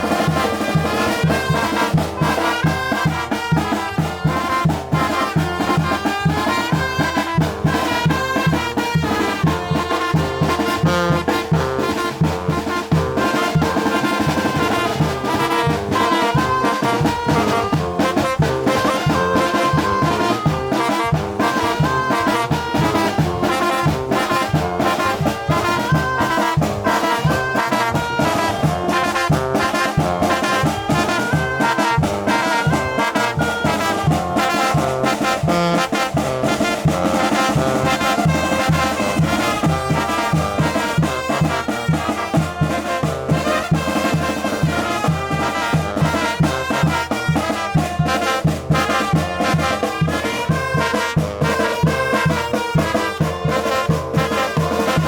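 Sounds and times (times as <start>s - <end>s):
brass band playing: 0.0s - 55.0s
percussion beat: 0.0s - 55.0s.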